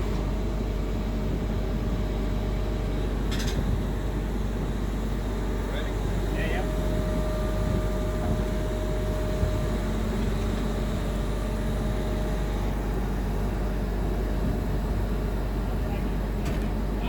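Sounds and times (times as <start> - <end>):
faint mechanical whine: 0.0 - 17.0
harvest machinery droning: 0.0 - 17.0.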